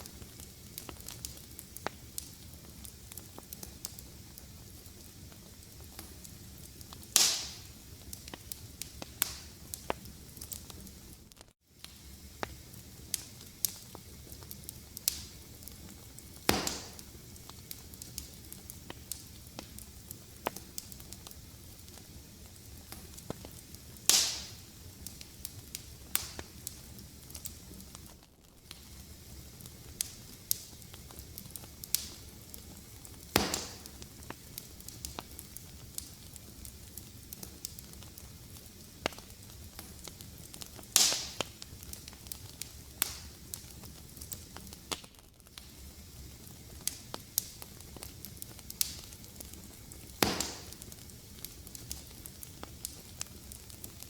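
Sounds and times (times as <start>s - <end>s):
loud fire pops: 0.0s - 11.2s, 11.8s - 54.0s
low hiss of fire: 0.0s - 54.0s
wood fire crackling: 0.0s - 54.0s.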